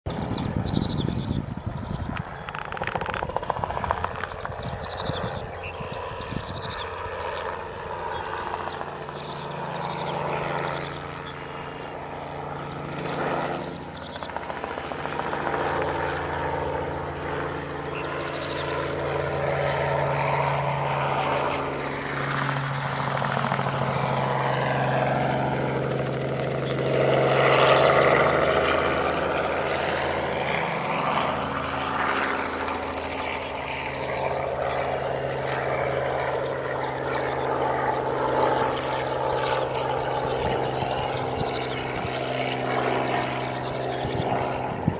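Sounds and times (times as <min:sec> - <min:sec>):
helicopter rotor and engine drone: 0:00.0 - 0:44.9.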